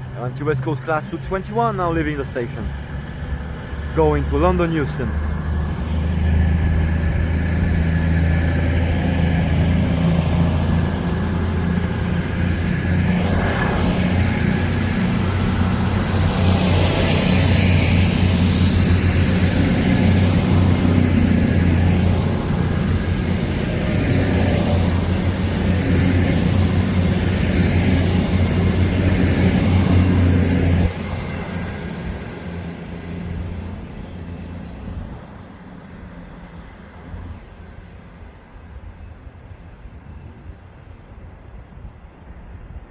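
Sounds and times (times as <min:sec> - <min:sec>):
diesel train engine drone: 0:00.0 - 0:42.9.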